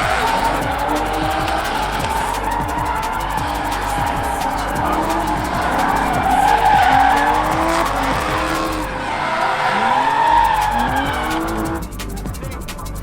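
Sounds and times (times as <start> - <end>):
tire squeal and skidding: 0.0 - 12.0
car engines revving: 0.0 - 13.0.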